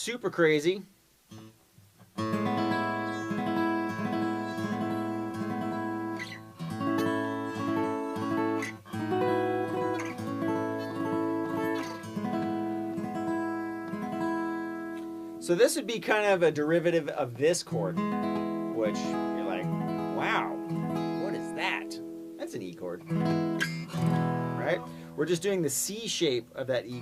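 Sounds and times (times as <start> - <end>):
acoustic guitar chords: 1.3 - 27.0.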